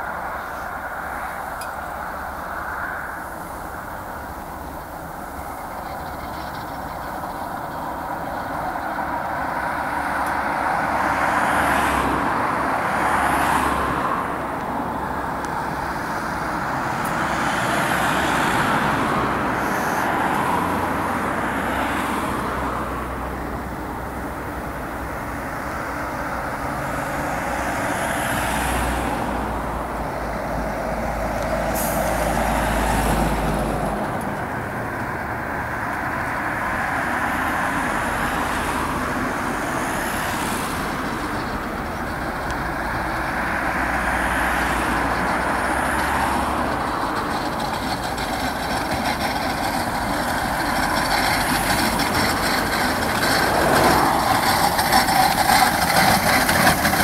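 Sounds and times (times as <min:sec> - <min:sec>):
vehicles passing on road: 0:00.0 - 0:57.0.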